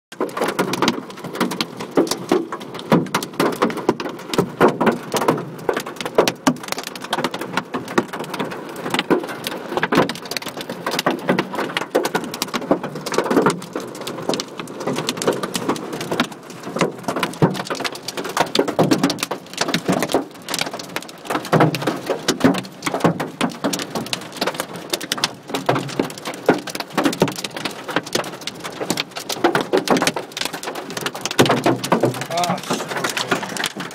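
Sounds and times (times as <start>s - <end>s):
hailstones clattering: 0.1s - 33.9s
heavy rain downpour: 0.1s - 33.9s.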